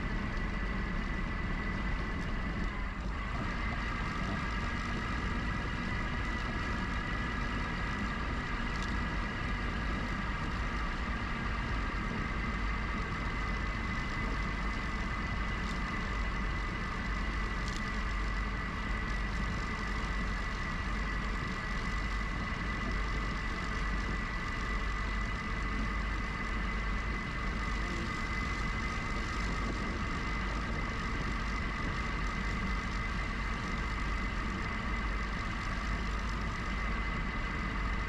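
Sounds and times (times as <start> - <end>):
electric bike motor whine: 0.0 - 38.0
wind rumble while riding: 0.0 - 38.0.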